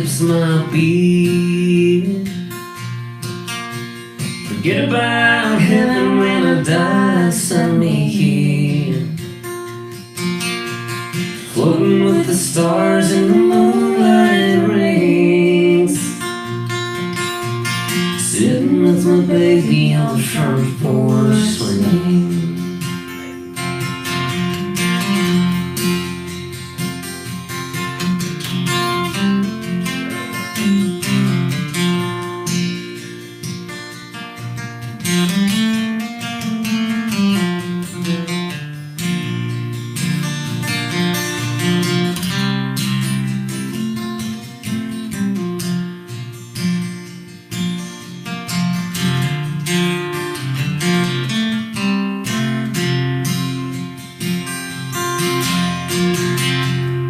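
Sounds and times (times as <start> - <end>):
acoustic guitar country rhythm: 0.0 - 57.0.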